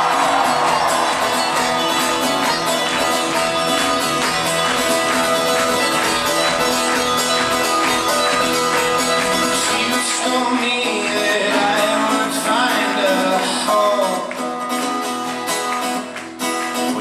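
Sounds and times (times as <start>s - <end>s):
folk-rock band playing: 0.0s - 17.0s
strummed acoustic guitar: 0.0s - 17.0s.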